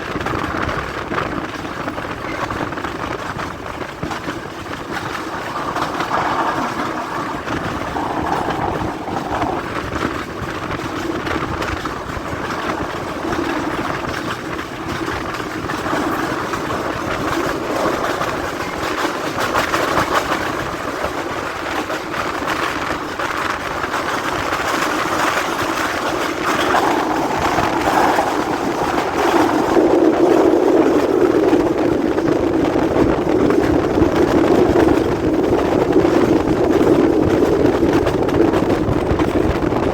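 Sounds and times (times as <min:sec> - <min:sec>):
train wheels rumbling over rails: 0:00.0 - 0:39.9.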